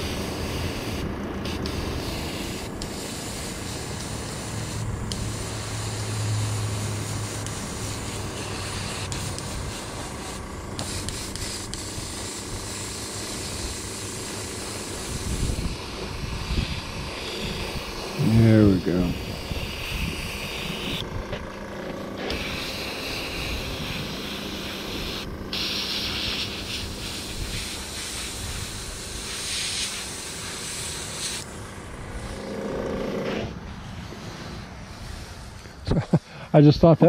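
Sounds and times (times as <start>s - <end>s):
airbrush hissing: 0.0s - 35.6s.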